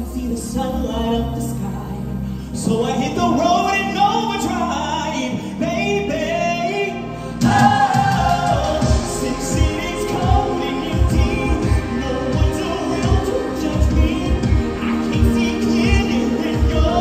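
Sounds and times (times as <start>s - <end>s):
stage-show music with vocals: 0.0s - 17.0s.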